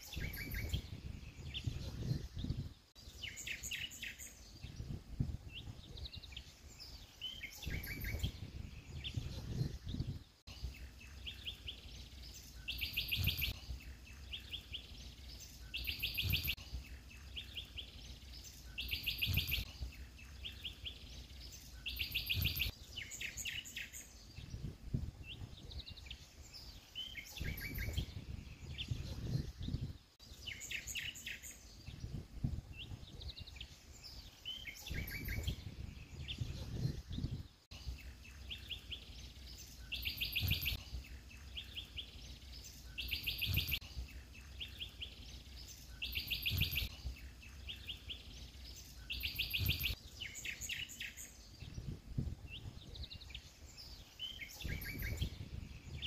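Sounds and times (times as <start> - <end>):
soft bird chirps: 0.0 - 56.0.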